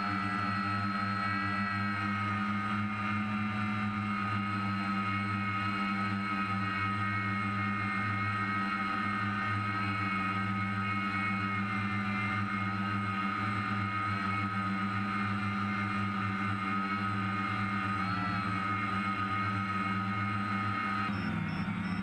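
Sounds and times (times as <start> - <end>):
drone motors and propellers whining: 0.0 - 22.0.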